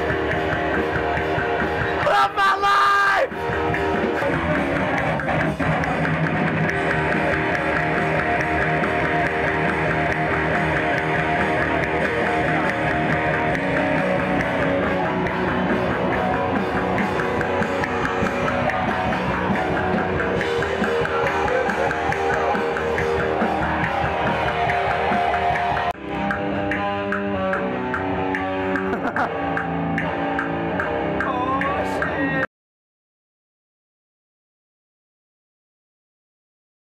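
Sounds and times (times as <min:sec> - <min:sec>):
heavy metal music: 0:00.0 - 0:32.5.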